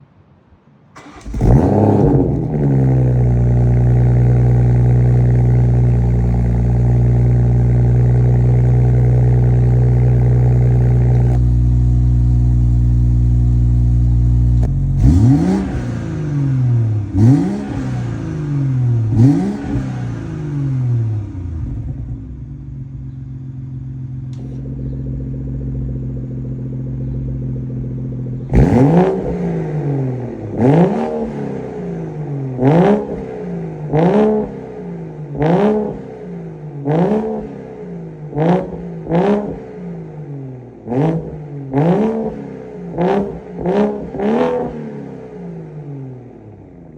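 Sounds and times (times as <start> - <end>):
car engine starting and idling: 0.9 - 46.9
car engine revving: 1.0 - 22.9, 23.6 - 46.9.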